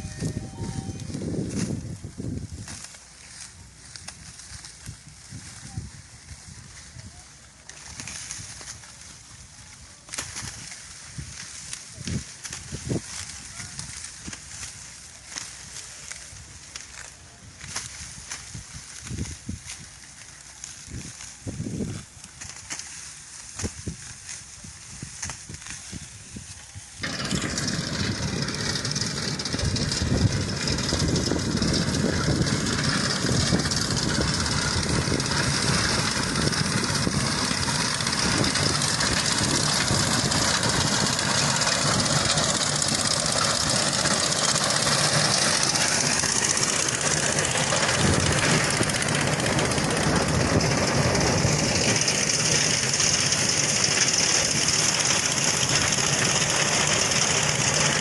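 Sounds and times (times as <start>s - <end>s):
motor engine running: 0.0s - 19.8s, 27.0s - 58.0s.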